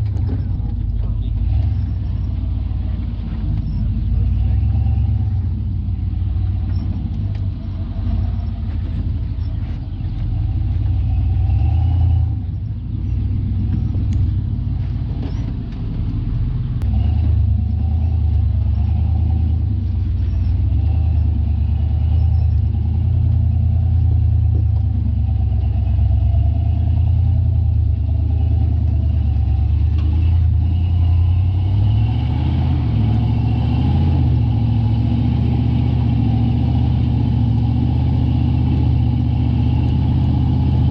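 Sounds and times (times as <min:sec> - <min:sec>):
off-road engine rumbling: 0:00.0 - 0:40.9.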